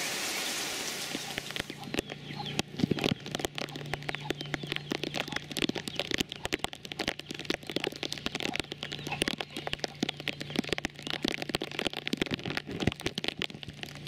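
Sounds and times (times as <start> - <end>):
rain drops crackling: 0.0 - 14.0.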